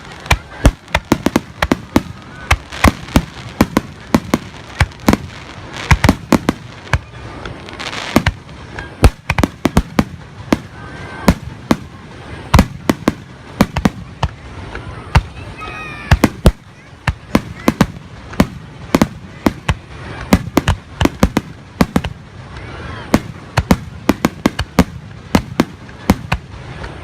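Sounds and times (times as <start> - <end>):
fireworks banging: 0.0 - 27.0.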